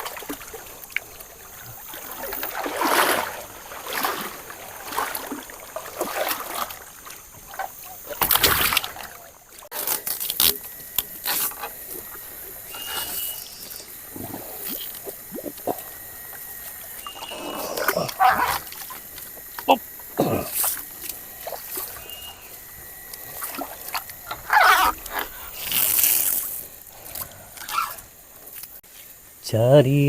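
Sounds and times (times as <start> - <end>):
river water splashing: 0.0 - 28.8.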